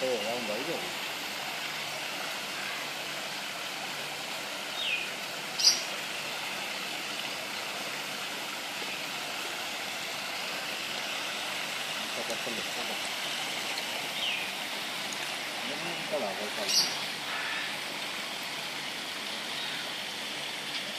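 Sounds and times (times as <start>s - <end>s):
running water: 0.0s - 20.9s.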